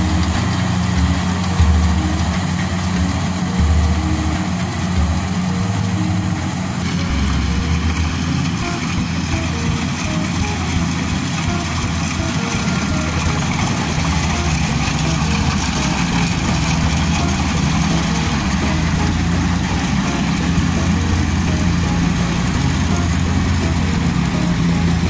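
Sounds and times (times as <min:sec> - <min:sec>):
combine harvester diesel engine: 0:00.0 - 0:25.0.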